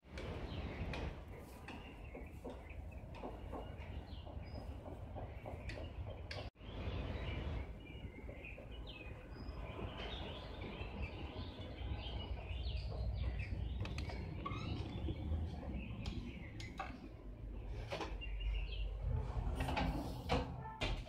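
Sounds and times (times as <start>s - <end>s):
small birds chirping: 0.1s - 19.1s.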